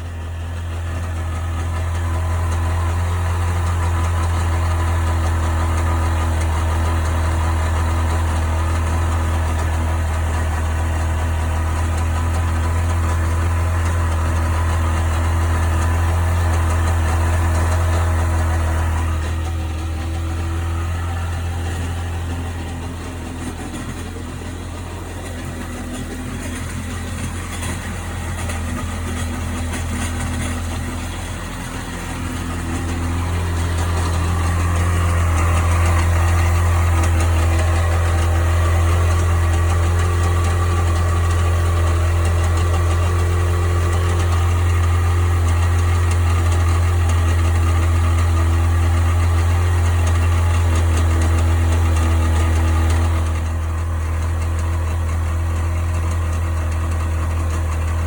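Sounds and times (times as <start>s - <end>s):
two-stroke engine running: 0.0s - 58.0s.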